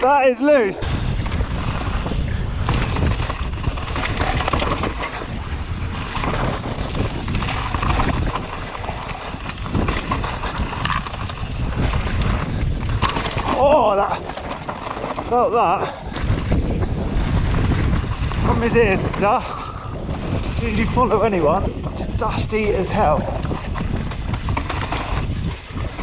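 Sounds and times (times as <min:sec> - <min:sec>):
bike rattling: 0:00.0 - 0:26.0
wind buffeting microphone: 0:00.0 - 0:26.0
tyres crunching over gravel: 0:00.4 - 0:26.0.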